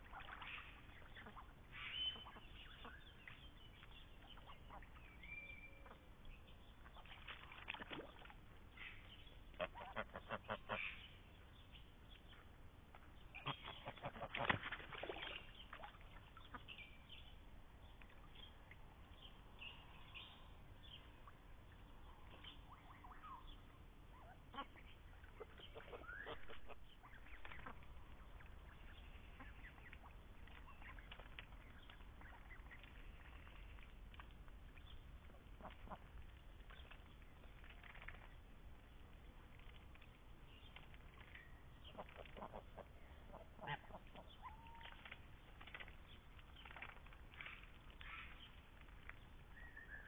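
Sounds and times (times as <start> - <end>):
ducks quacking faintly: 0.0 - 17.3, 17.9 - 49.8.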